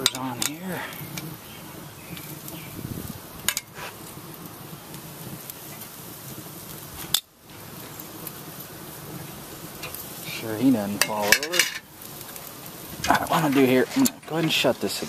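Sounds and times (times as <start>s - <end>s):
food sizzling on grill: 0.0s - 15.0s.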